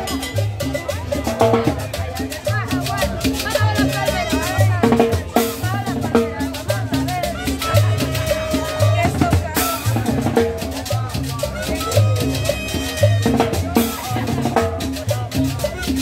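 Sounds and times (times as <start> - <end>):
live band playing dance music: 0.0 - 16.0.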